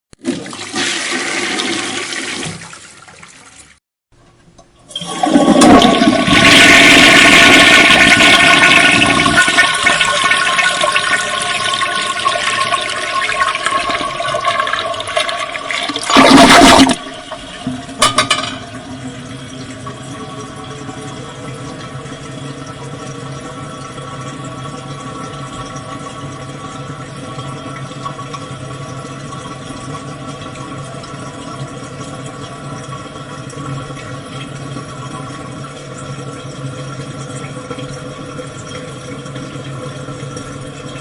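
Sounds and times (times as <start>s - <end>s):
toilet flushing: 0.2s - 3.8s, 4.8s - 41.0s.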